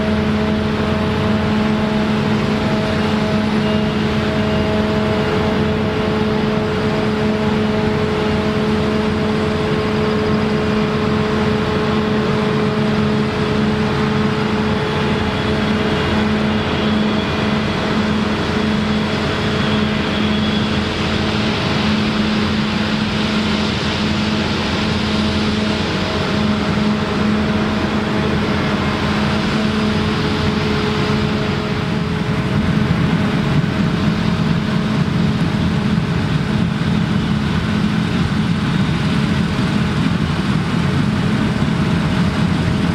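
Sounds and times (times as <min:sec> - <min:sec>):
combine harvester droning: 0:00.0 - 0:42.9.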